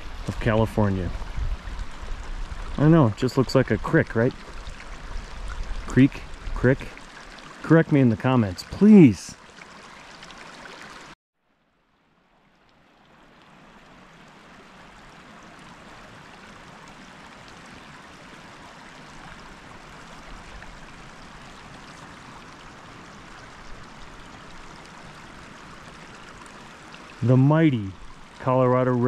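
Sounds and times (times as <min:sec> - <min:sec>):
creek running over stones: 0:00.0 - 0:29.0.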